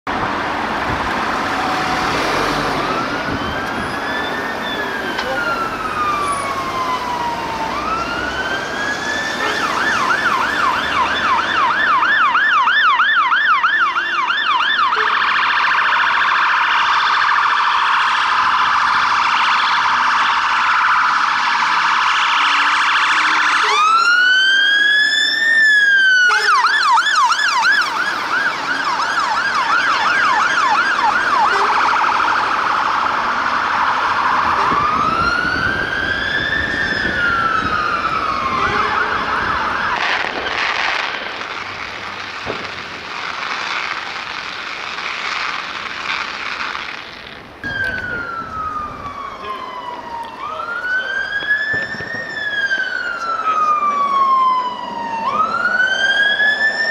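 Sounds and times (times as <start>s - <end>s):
sirens wailing and yelping: 0.1s - 56.9s.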